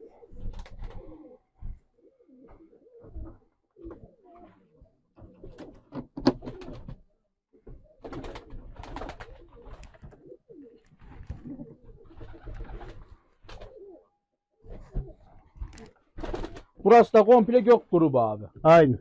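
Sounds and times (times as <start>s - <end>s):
pigeons cooing: 0.0s - 7.0s, 7.6s - 16.8s.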